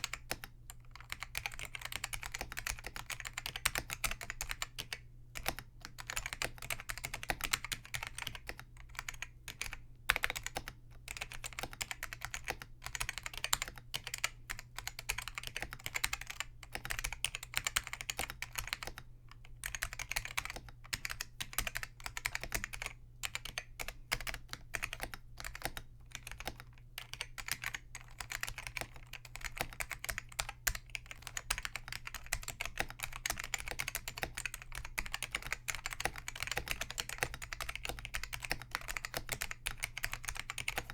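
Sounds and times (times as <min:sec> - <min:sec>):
keyboard typing: 0:00.0 - 0:19.0, 0:19.6 - 0:40.9.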